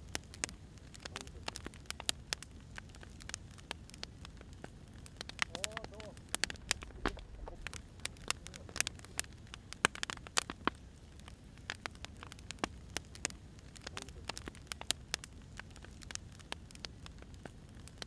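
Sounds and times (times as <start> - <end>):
firewood crackling and snapping: 0.0 - 18.0
low rumble of fire: 0.0 - 18.0.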